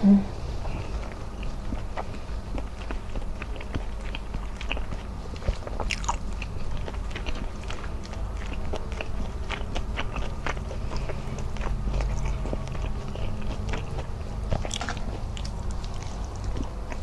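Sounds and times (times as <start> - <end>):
low steady hum: 0.0 - 17.0
wet chewing mouth clicks: 0.8 - 17.0.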